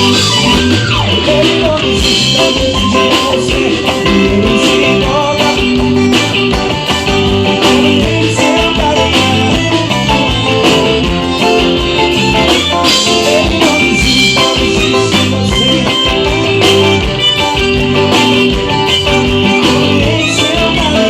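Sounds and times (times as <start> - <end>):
electric guitar: 0.0 - 21.0
live band playing gospel music: 0.0 - 21.0.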